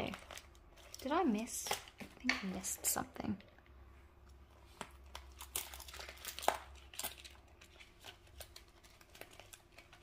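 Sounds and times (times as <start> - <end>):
plastic pages crinkling: 0.0 - 3.5, 4.5 - 10.0.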